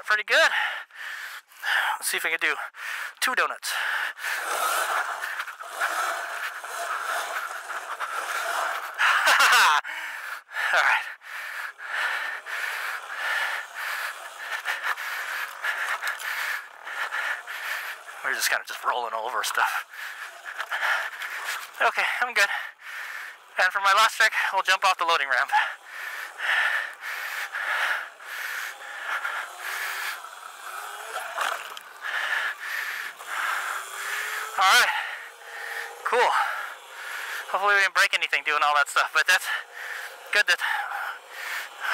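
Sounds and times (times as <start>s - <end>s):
tyres on rocky ground: 0.0s - 41.9s
electric motorbike drivetrain whine: 2.7s - 41.9s.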